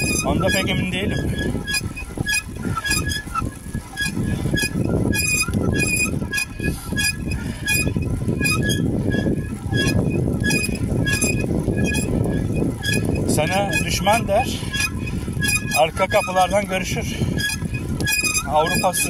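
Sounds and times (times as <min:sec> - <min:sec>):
bicycle squeaking: 0:00.0 - 0:19.0
wind and road noise: 0:00.0 - 0:19.0.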